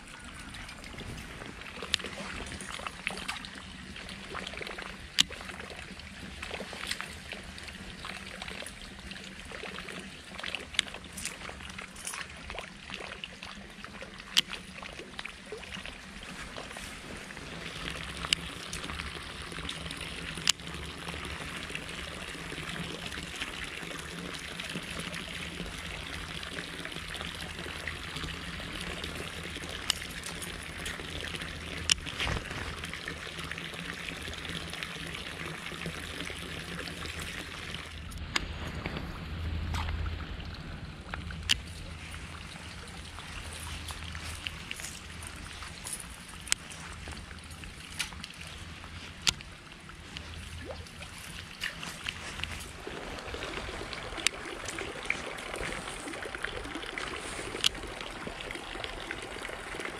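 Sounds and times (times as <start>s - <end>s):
trickling splashing water: 0.0s - 38.4s, 39.6s - 59.9s.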